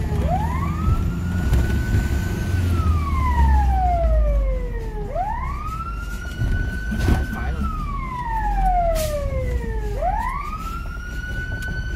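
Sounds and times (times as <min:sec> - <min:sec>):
fire engine siren wailing: 0:00.0 - 0:11.9.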